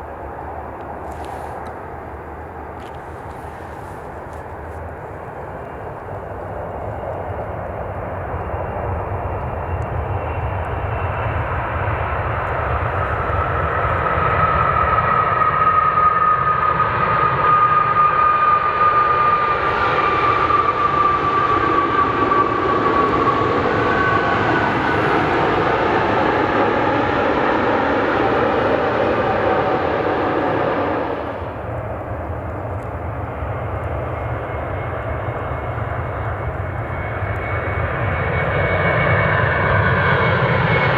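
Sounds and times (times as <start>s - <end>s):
high jet engine whine: 0.0s - 40.9s
jet engines passing close: 0.0s - 40.9s.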